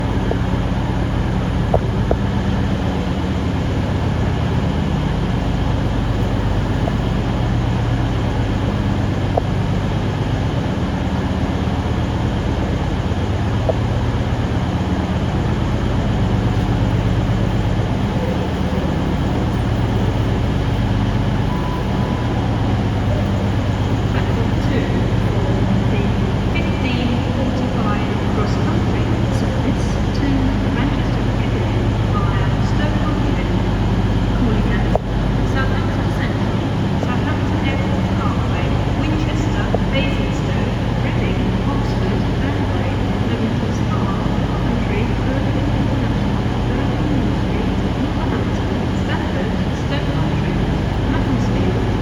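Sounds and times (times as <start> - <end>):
standing train hum: 0.0 - 52.0.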